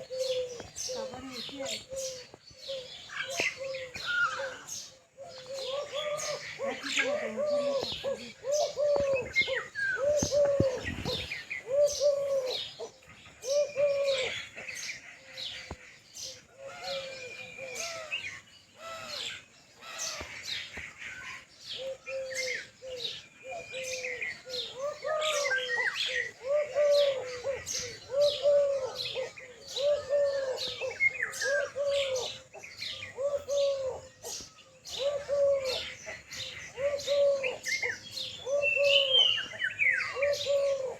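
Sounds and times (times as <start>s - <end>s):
lower arched bird calls: 0.0s - 40.9s.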